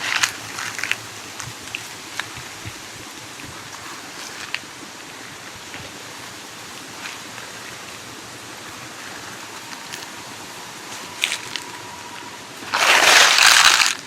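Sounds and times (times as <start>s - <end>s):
dry leaves crackling underfoot: 0.0s - 14.0s
wind rustling through trees: 0.0s - 14.0s.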